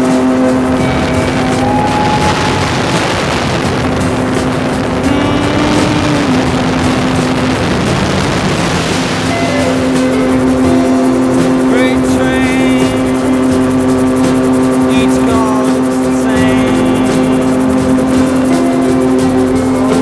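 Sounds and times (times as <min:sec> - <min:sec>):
engine drone: 0:00.0 - 0:20.0
rushing air: 0:00.0 - 0:20.0.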